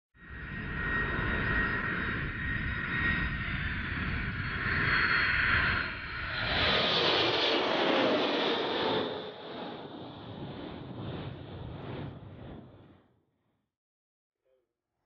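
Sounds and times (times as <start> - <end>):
high jet whine: 0.2 - 12.8
jet engines rumbling: 0.3 - 13.0.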